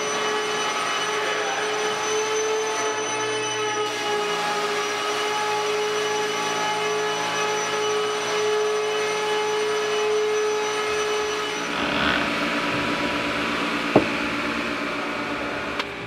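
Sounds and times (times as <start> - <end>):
vacuum machine whining and hissing: 0.0 - 16.0.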